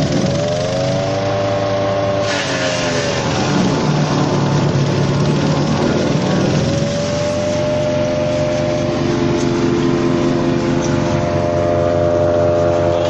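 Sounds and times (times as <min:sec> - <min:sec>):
branch shredder engine: 0:00.0 - 0:13.0
branches grinding: 0:00.0 - 0:13.0.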